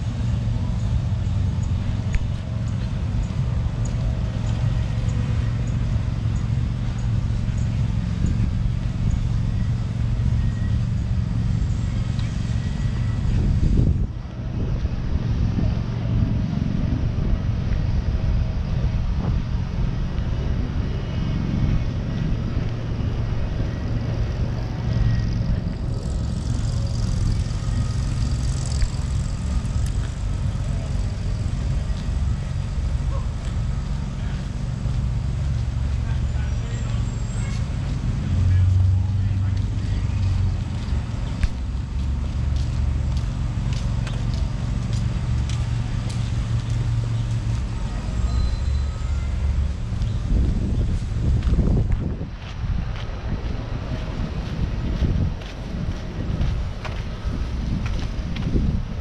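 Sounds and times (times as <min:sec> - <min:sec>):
road traffic rumble: 0:00.0 - 0:59.0
vehicle engine running: 0:00.0 - 0:59.0.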